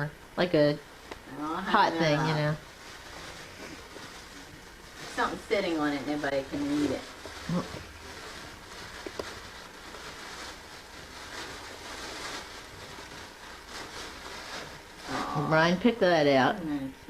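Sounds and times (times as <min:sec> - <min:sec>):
room tone hiss and hum: 0:00.0 - 0:17.0.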